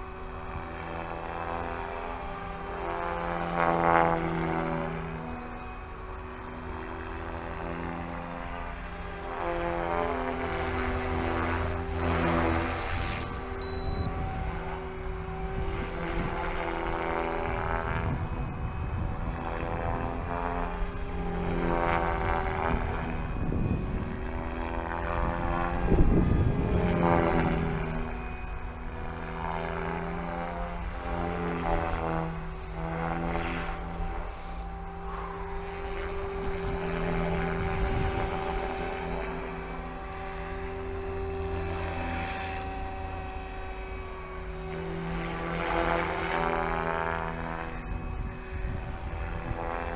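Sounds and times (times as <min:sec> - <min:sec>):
rc helicopter motor and rotor hum: 0:00.0 - 0:49.9.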